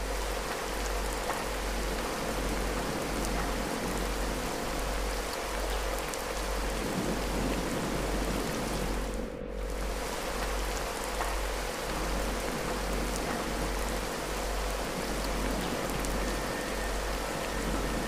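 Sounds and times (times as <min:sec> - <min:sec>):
low pulsing hum: 0:00.0 - 0:18.0
steady rain: 0:00.0 - 0:18.0.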